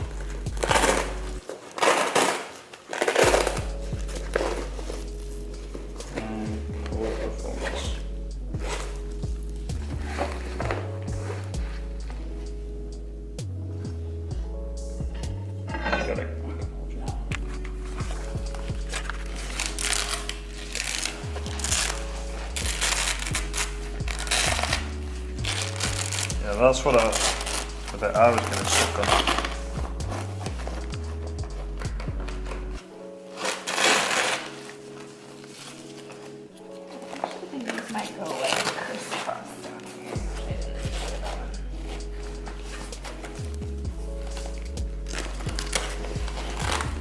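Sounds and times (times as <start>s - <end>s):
music with deep bass: 0.0s - 1.4s, 3.2s - 33.0s, 40.0s - 47.0s
rustling and scraping of nylon: 0.0s - 12.5s, 17.0s - 47.0s.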